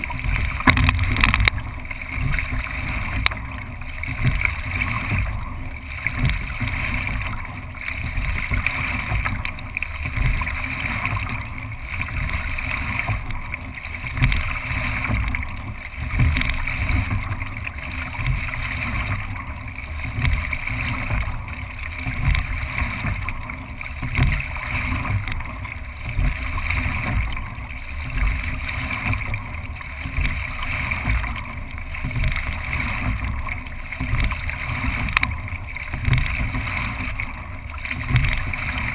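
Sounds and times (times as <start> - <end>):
water rushing along hull: 0.0 - 38.9.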